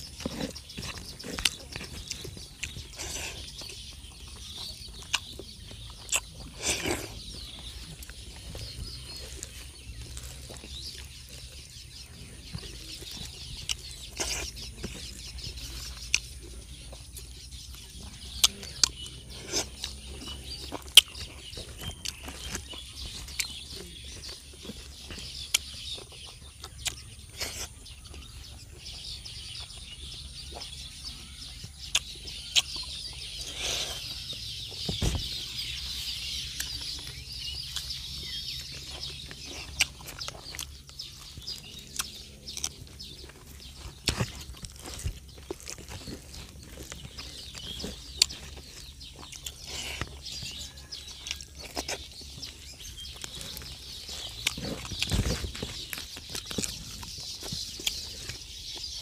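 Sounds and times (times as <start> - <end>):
chewing and lip smacks: 0.0 - 35.0, 36.1 - 59.0
chickens clucking: 0.0 - 59.0.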